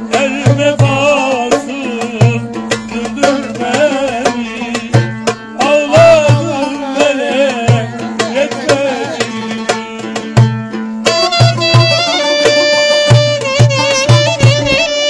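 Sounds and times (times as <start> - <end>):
man singing ornamented melody: 0.0 - 10.4, 11.1 - 15.0
low drum beats: 0.0 - 15.0
plucked string instrument: 0.0 - 15.0.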